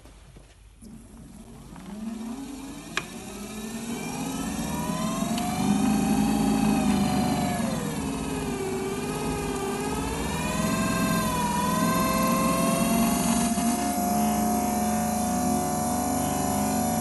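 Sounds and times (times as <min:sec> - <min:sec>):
electric motor whining: 0:01.2 - 0:17.0.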